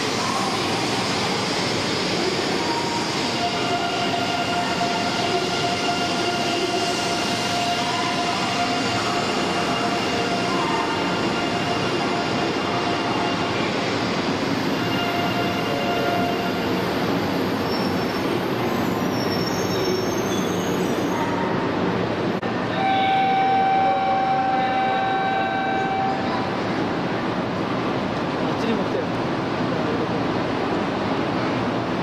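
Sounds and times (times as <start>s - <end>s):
train and platform noise: 0.0s - 32.0s.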